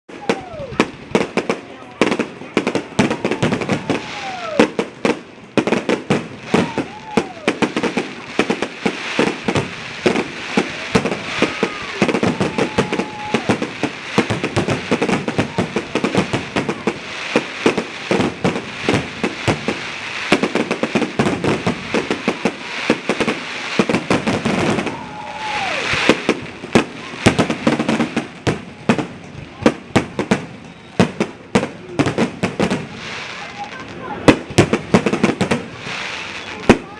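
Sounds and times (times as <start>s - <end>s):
fireworks crackling and banging: 0.1s - 36.9s
fireworks hissing: 0.3s - 36.9s.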